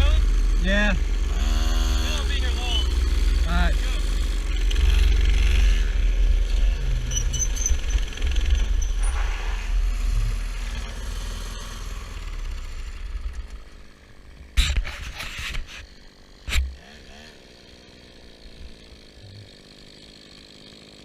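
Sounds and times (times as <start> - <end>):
mini bike engine running: 0.0 - 21.0.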